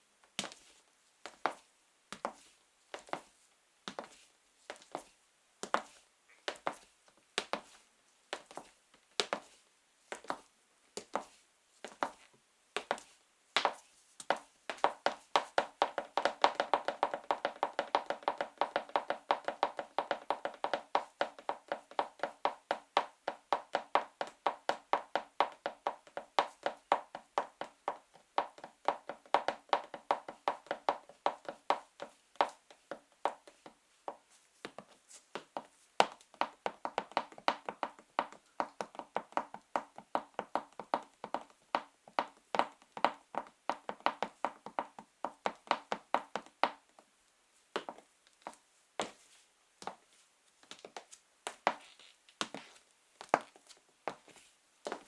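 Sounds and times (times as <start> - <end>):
high heels tapping on floor: 1.3 - 3.3, 3.9 - 5.9, 6.5 - 6.8, 7.4 - 7.7, 8.3 - 9.5, 11.0 - 11.3, 12.8 - 47.0, 47.8 - 49.2, 49.8 - 50.0, 50.6 - 55.0.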